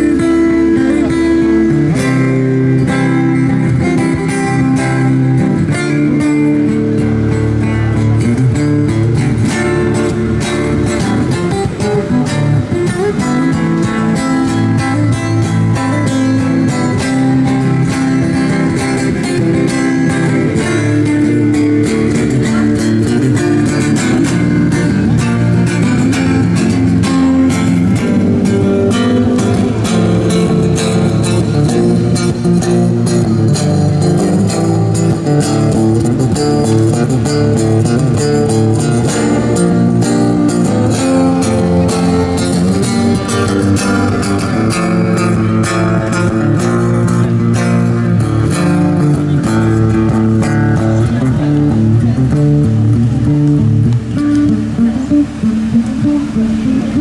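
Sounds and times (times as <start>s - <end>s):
acoustic guitar melody: 0.0s - 57.0s.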